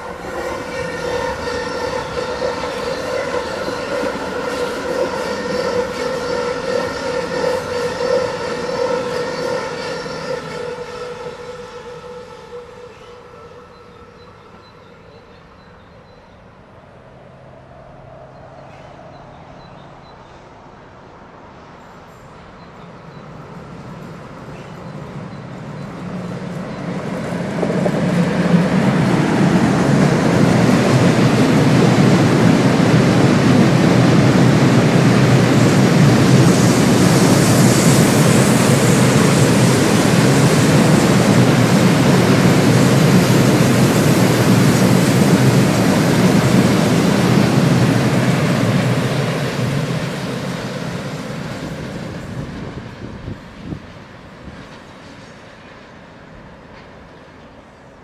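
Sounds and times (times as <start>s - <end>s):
freight train wheels rumbling on rail: 0.0s - 16.3s, 18.0s - 58.0s.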